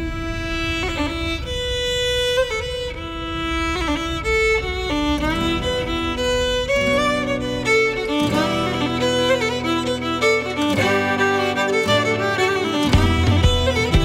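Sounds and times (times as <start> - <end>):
fiddle melody: 0.0 - 14.0.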